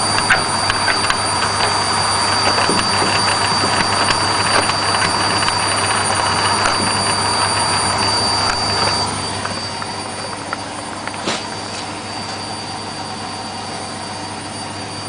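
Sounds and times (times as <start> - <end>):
high whine: 0.0 - 15.0
washing machine spinning: 0.0 - 15.0.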